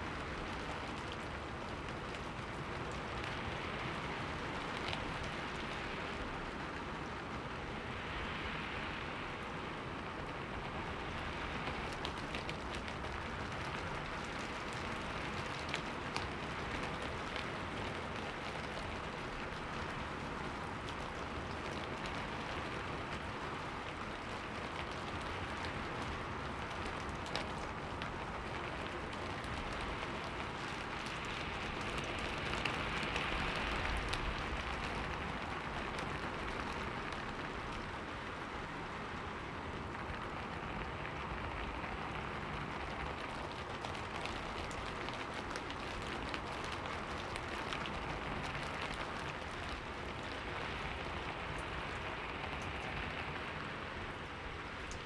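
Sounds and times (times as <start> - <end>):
rain on a window pane: 0.0 - 55.0.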